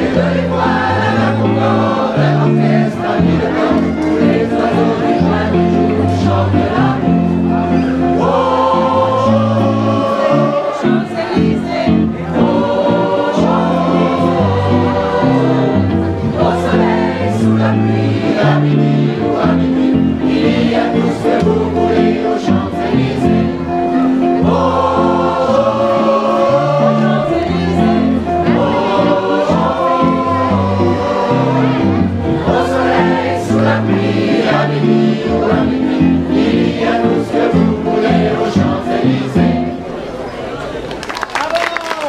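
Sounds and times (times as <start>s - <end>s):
mixed choir singing: 0.0s - 40.0s.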